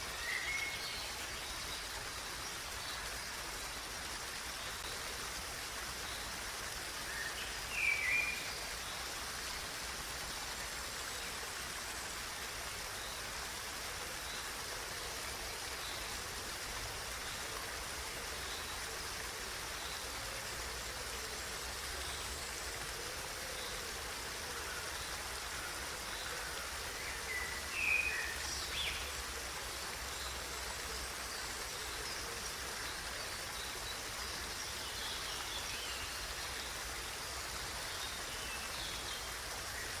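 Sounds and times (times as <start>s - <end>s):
flowing water: 0.0s - 40.0s.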